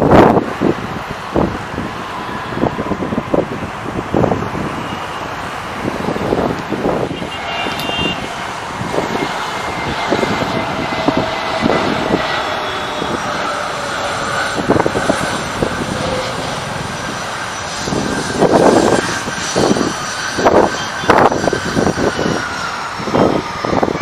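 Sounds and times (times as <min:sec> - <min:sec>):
airliner engines droning: 0:00.0 - 0:24.0.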